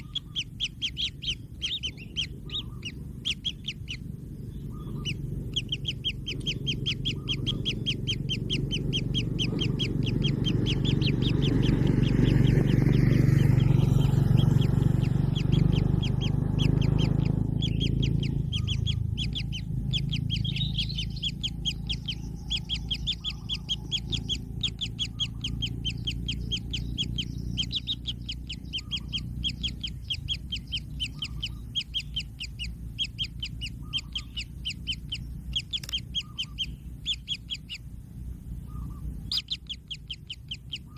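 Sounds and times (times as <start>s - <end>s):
chicks calling: 0.0s - 40.9s
loud low rumbling: 0.0s - 40.9s.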